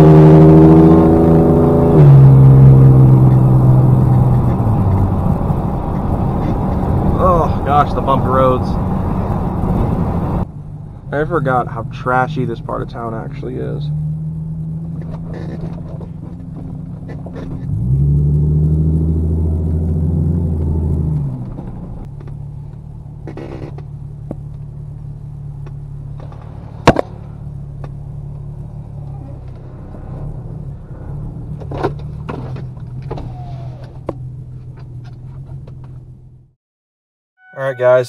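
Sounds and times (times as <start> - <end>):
engine running and revving: 0.0 - 10.5, 11.2 - 36.2.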